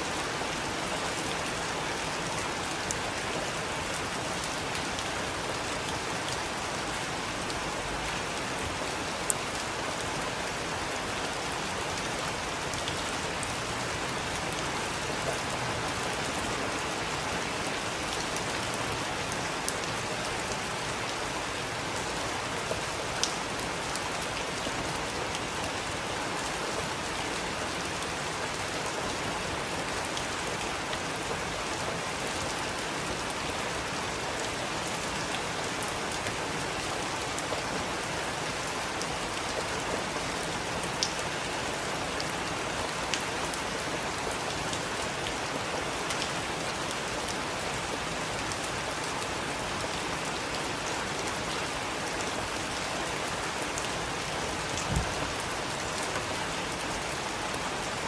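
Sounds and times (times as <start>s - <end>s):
heavy rain falling: 0.0s - 58.0s
rain drops ticking: 0.2s - 58.0s.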